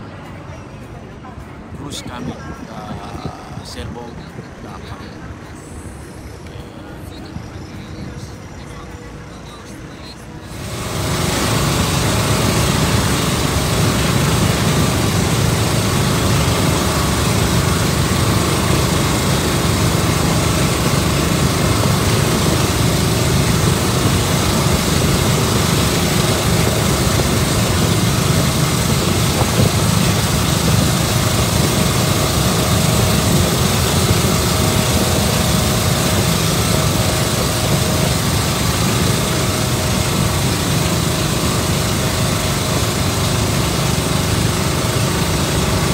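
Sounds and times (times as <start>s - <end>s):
boat engine drone: 0.0s - 45.9s.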